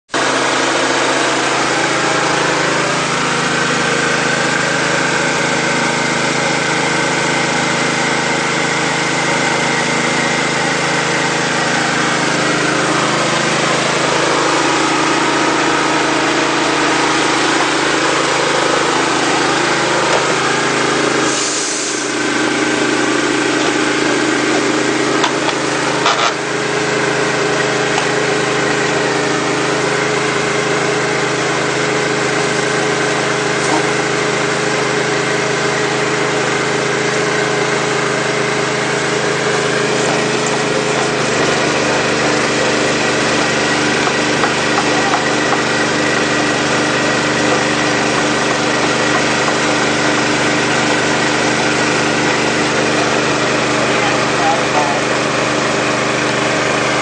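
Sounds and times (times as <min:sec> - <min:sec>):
vent cleaning machine drone: 0:00.1 - 0:57.0.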